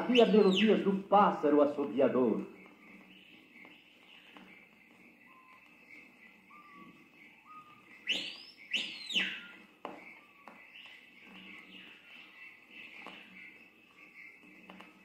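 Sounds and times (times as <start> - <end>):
bird whistling: 0.0 - 15.0.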